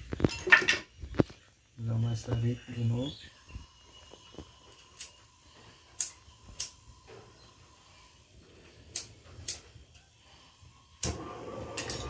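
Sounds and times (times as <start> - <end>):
gas hissing: 0.9 - 12.0.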